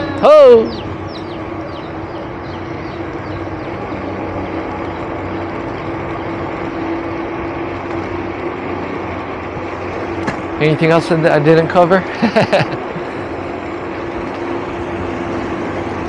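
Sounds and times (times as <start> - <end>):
bicycle tyres on road: 0.0 - 16.0.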